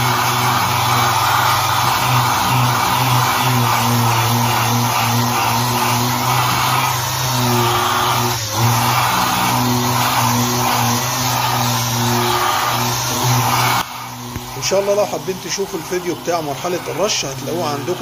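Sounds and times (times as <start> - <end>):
gritty sanding noise: 0.0 - 18.0
orbital sander motor hum: 0.0 - 18.0.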